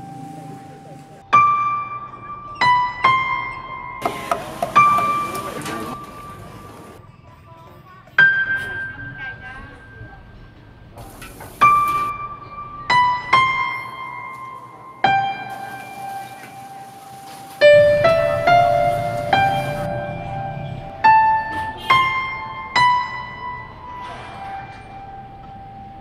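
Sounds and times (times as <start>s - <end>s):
slow piano melody: 0.0s - 7.1s, 8.2s - 26.0s.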